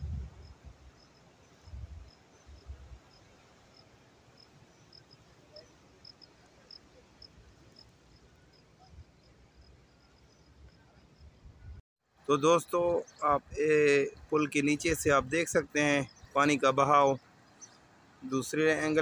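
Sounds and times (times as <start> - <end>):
insect chirping: 0.0 - 11.8, 12.7 - 19.0.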